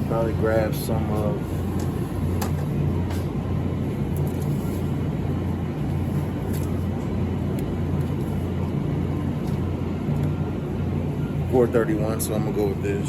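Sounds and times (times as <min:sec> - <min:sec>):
store background rumble: 0:00.0 - 0:13.0.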